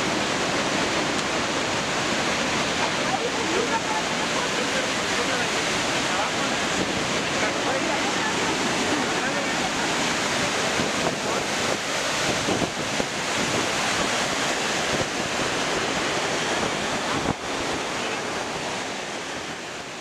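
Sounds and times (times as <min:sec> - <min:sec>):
river rapids roaring: 0:00.0 - 0:20.0.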